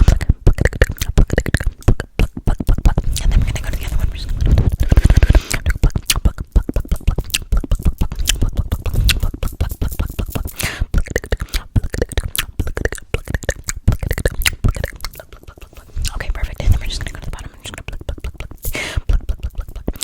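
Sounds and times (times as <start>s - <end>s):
wet mouth clicks and pops: 0.0s - 20.0s.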